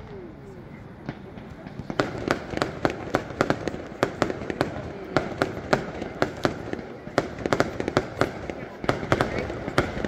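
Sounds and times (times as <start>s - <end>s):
fireworks bangs and cracks: 1.0s - 10.0s.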